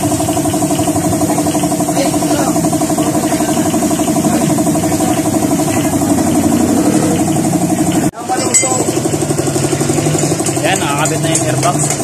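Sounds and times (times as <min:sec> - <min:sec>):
small motor running: 0:00.0 - 0:12.0.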